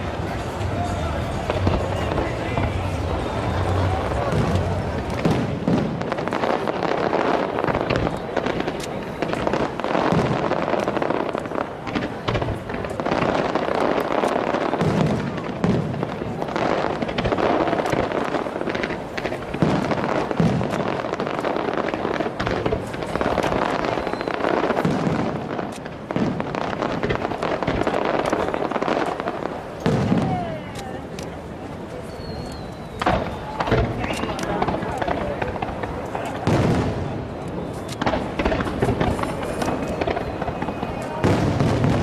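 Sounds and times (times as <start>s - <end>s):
firework shells booming: 0.0s - 31.3s, 32.2s - 42.0s
fireworks crackling: 0.0s - 42.0s.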